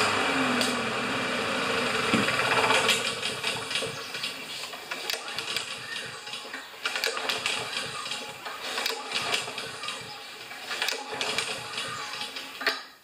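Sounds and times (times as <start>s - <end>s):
lawn mower engine running: 0.0s - 12.6s.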